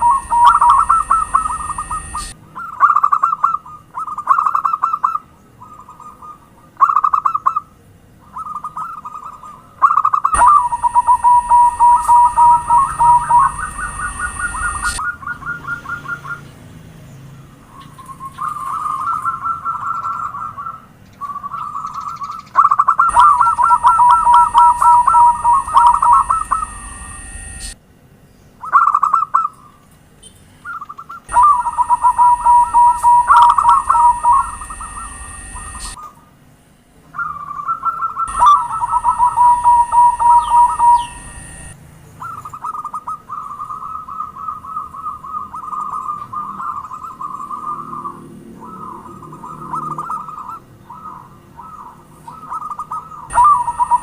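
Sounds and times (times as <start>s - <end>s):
doves cooing: 0.0s - 7.6s, 8.3s - 16.4s, 18.1s - 27.8s, 31.0s - 36.1s, 37.2s - 54.0s.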